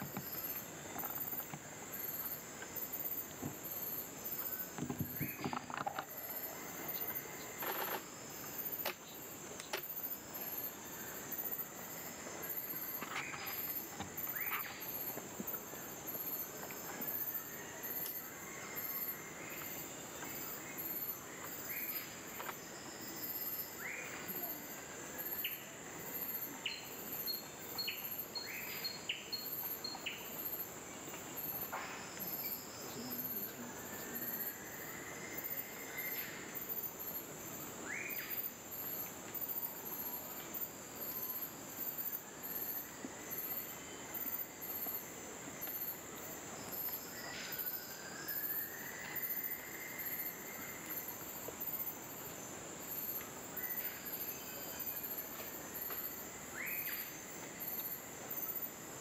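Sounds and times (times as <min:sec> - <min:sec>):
insects buzzing: 0:00.0 - 0:59.0
pulsing insect chirp: 0:00.0 - 0:59.0.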